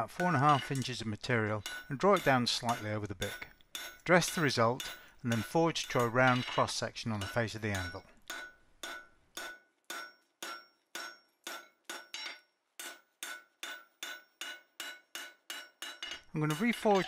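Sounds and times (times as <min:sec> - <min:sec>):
hammer striking hot metal: 0:00.0 - 0:17.0.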